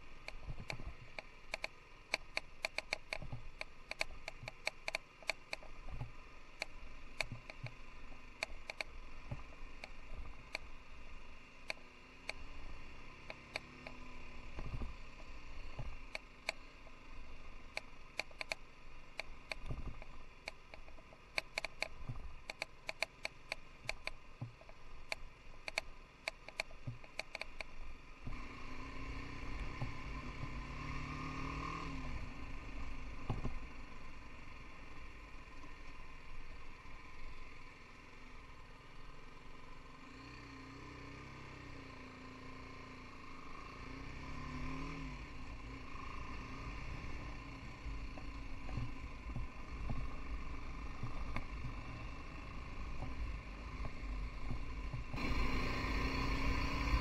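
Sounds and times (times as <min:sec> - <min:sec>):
motorcycle rattling over bumps: 0:00.0 - 0:34.8, 0:42.0 - 0:57.0
single-cylinder motorcycle engine: 0:00.0 - 0:57.0
steady rush of riding: 0:00.0 - 0:57.0.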